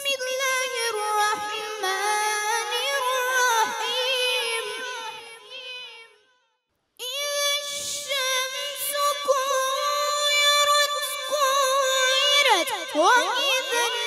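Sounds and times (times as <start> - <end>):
boy reciting melodically: 0.0 - 6.1, 7.0 - 14.0.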